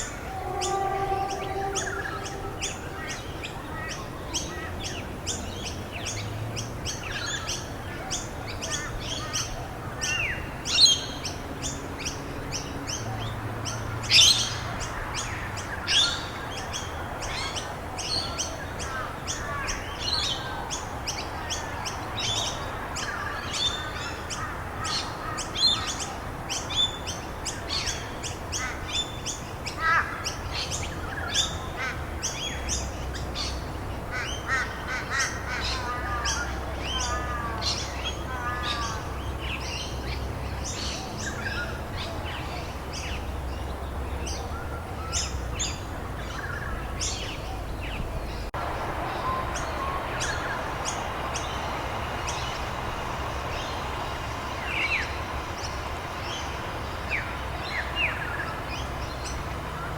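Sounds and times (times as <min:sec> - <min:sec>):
loud sweeping bird calls: 0:00.0 - 0:06.3, 0:13.7 - 0:59.9
wild birds chirping: 0:00.0 - 0:59.9
steady background hiss: 0:07.2 - 0:59.9.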